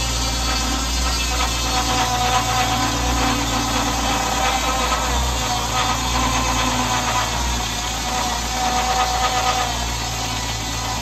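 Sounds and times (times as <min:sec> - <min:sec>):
circular saw blade whine: 0:00.0 - 0:11.0
tractor engine running: 0:00.0 - 0:11.0.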